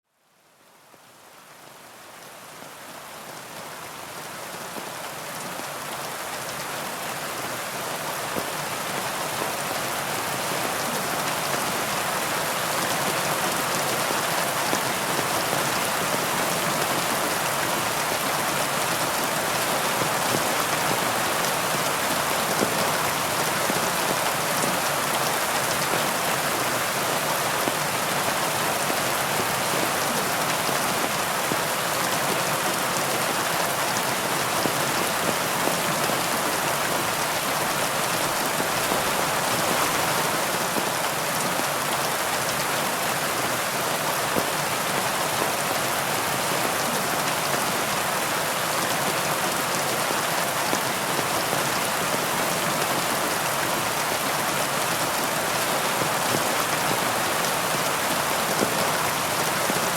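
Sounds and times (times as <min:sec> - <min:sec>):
heavy rain pouring: 0:03.0 - 0:59.9.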